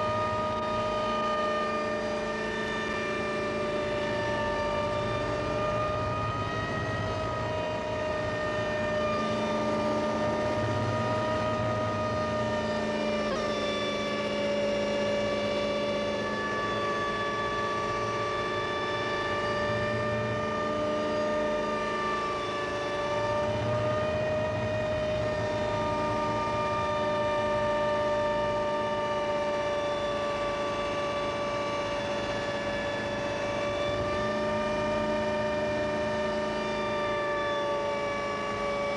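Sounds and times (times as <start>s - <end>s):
helicopter engine and rotor noise: 0.0s - 38.9s
high engine whine: 0.0s - 38.9s.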